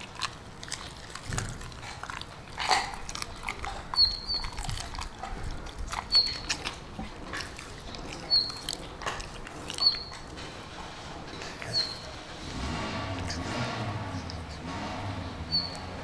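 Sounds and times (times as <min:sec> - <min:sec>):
dog chewing with crunches: 0:00.0 - 0:16.0.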